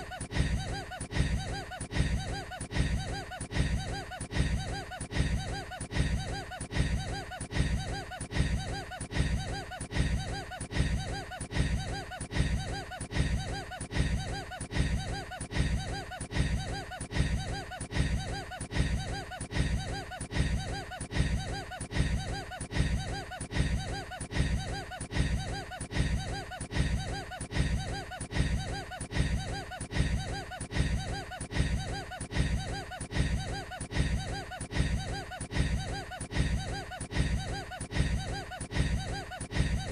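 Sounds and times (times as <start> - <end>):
man laughing: 0.0 - 39.9.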